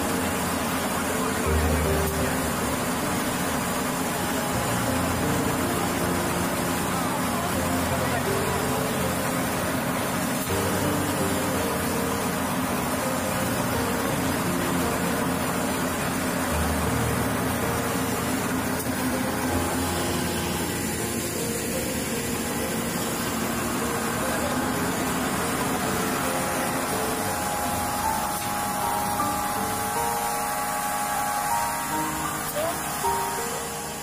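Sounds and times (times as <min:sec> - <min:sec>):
folding machine running: 0:00.0 - 0:34.0.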